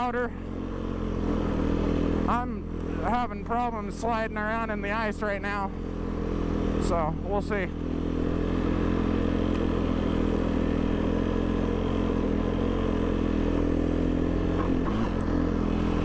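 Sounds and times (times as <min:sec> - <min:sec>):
snow machine engine running: 0:00.0 - 0:16.0.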